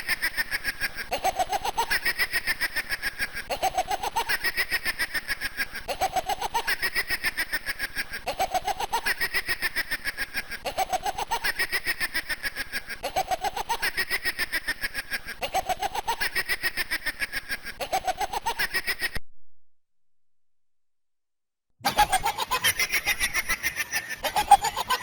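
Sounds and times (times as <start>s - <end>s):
electronic cackling laugh: 0.0s - 19.2s, 21.8s - 25.0s.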